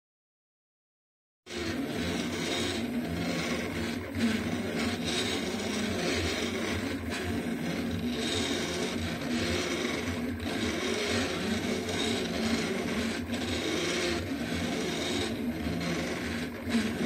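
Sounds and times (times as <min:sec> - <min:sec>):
three d printer whirring: 0:01.5 - 0:17.0.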